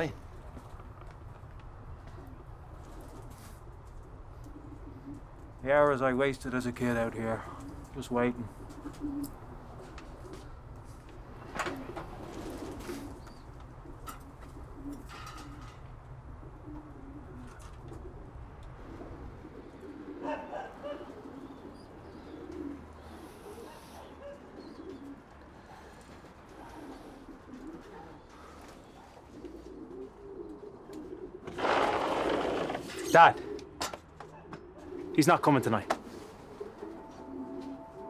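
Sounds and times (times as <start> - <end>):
pigeons cooing softly: 0.0 - 38.0.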